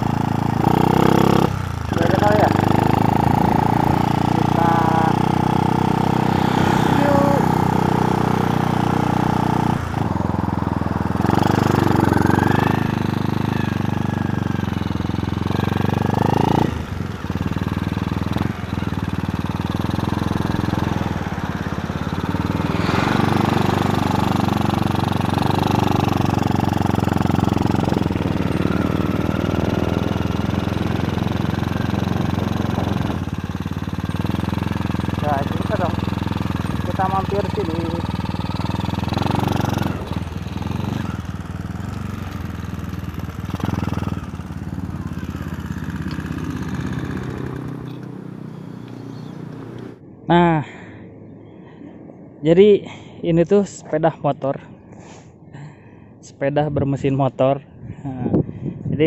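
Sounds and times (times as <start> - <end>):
motorcycle engine running: 0.0 - 50.2.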